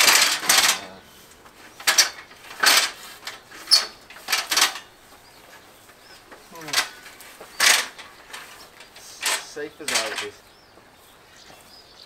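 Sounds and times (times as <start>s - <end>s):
stepladder scraping and rattling: 0.0s - 10.5s.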